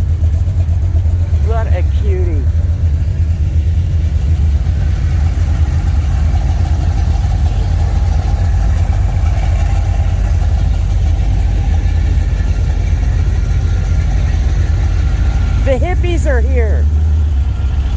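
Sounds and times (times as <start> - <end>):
car engine exhaust rumble: 0.0 - 17.9.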